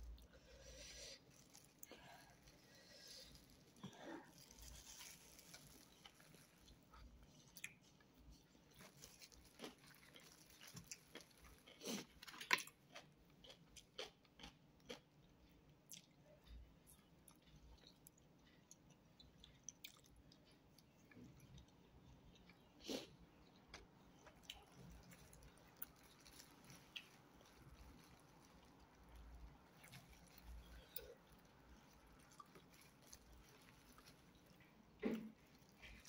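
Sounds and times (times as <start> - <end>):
close-up chewing and mouth clicks: 1.2 - 36.0.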